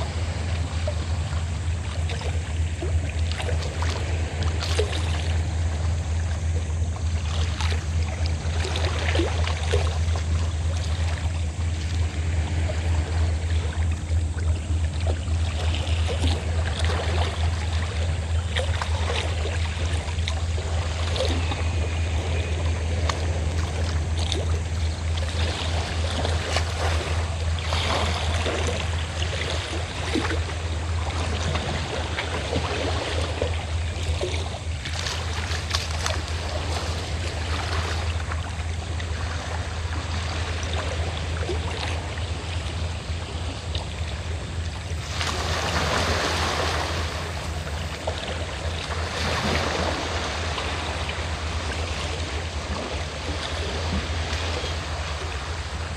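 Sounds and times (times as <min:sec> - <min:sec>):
boat engine drone: 0:00.0 - 0:55.9
waves washing against shore: 0:00.0 - 0:55.9.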